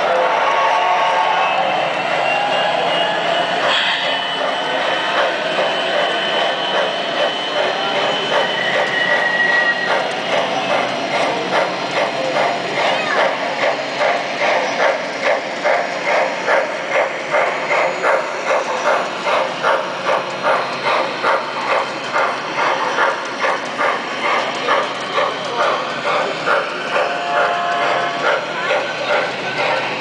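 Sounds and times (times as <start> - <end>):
model trains clattering on track: 2.0 - 30.0.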